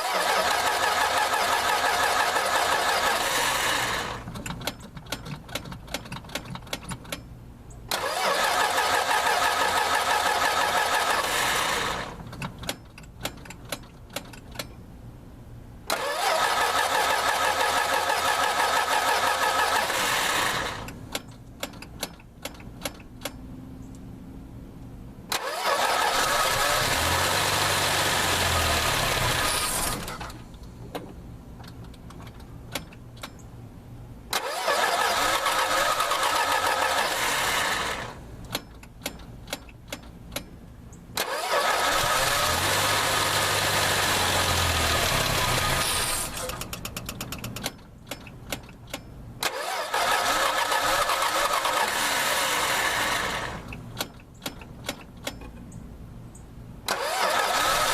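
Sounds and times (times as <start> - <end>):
engine cranking by starter: 0.0 - 7.2, 7.9 - 14.6, 15.8 - 23.4, 25.3 - 30.6, 34.3 - 40.5, 41.1 - 55.4, 56.8 - 57.9.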